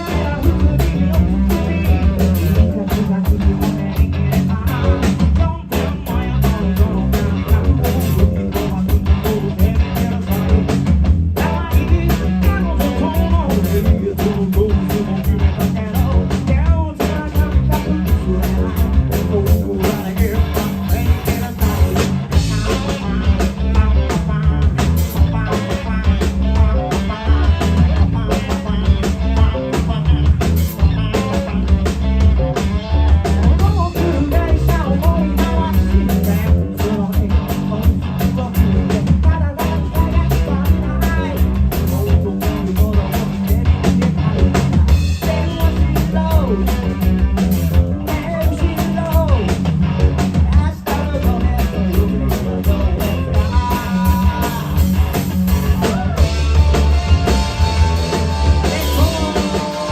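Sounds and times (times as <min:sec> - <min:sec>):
person singing: 0:00.0 - 0:10.8, 0:11.4 - 0:32.0, 0:32.6 - 0:47.1, 0:47.7 - 0:49.6, 0:50.3 - 0:59.9
bass guitar: 0:00.0 - 0:59.9
drum kit beat: 0:00.0 - 0:59.9
electric guitars: 0:00.0 - 0:59.9.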